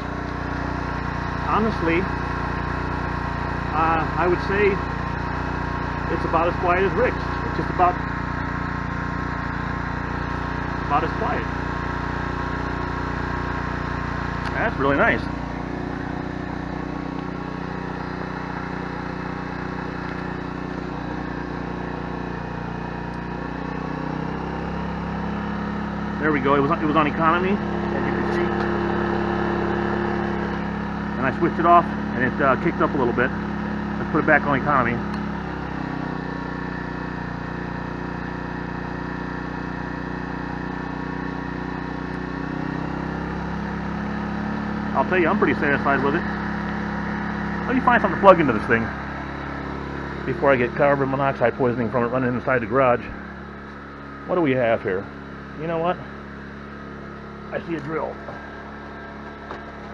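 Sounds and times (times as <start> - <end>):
generator engine humming: 0.0 - 59.9.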